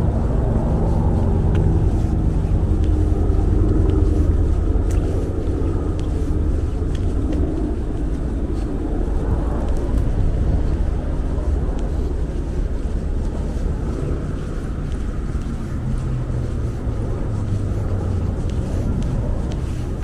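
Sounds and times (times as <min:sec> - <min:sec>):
low rumble of city traffic: 0:00.0 - 0:20.0.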